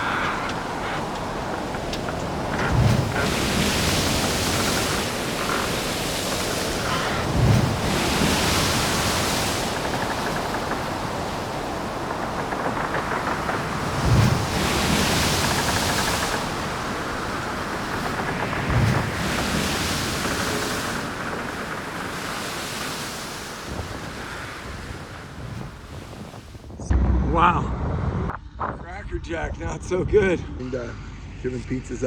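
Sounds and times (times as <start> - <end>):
waves breaking on shore: 0.0 - 26.8
wind on microphone: 0.0 - 30.6.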